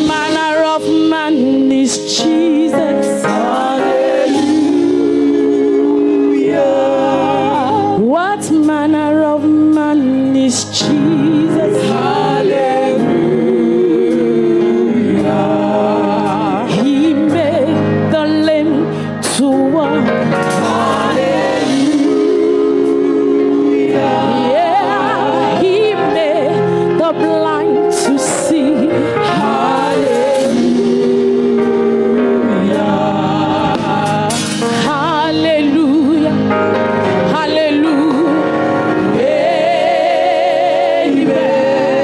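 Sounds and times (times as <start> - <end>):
gospel singing: 0.0 - 42.0
instrumental accompaniment: 0.0 - 42.0.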